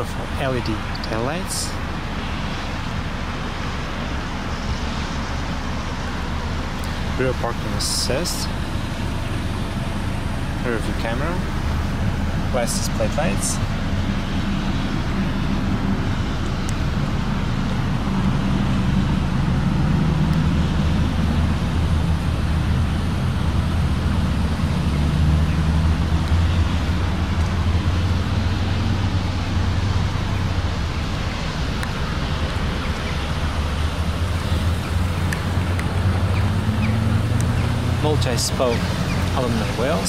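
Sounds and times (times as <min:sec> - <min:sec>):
car engine idling: 0:05.1 - 0:40.0.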